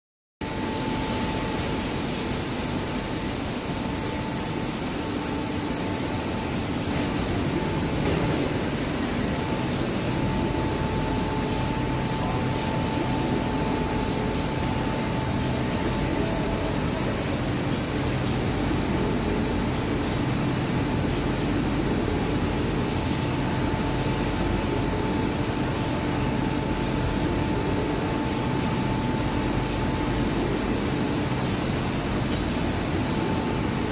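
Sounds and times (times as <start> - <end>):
machinery high whine: 0.4 - 33.9.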